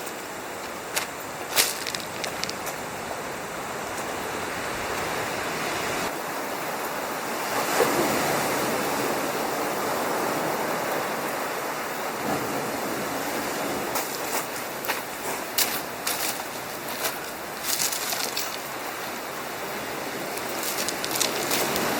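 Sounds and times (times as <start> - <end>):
sea surf washing on a beach: 0.0 - 21.9.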